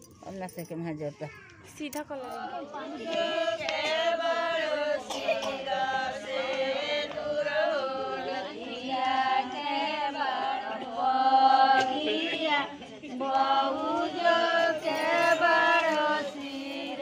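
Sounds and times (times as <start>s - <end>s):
women singing folk song unaccompanied: 1.8s - 17.0s.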